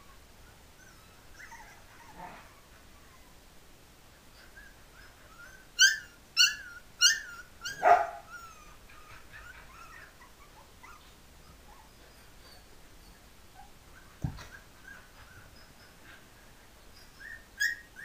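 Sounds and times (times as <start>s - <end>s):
puppies whimpering: 0.0s - 3.4s, 4.3s - 18.0s
puppies yelping: 0.8s - 3.3s, 4.4s - 18.0s.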